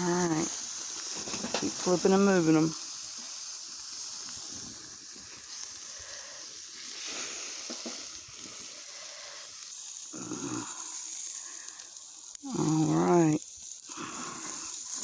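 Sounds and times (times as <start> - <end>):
steaks sizzling on a grill: 0.0 - 15.0.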